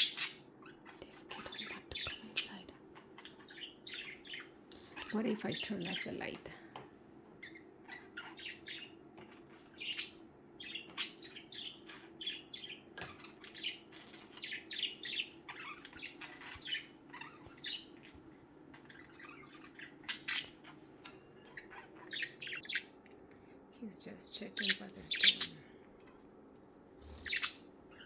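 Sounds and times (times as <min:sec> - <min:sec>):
budgerigars chirping: 0:00.0 - 0:06.2, 0:07.4 - 0:23.0, 0:24.3 - 0:25.7, 0:27.1 - 0:28.0.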